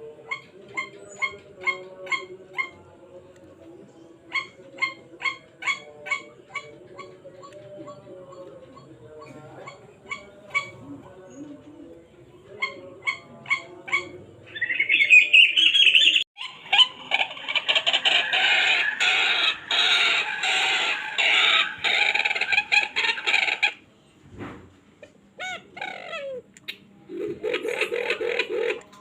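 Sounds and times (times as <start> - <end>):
recorded bird calls from speaker: 0.0 - 24.2, 25.0 - 29.0.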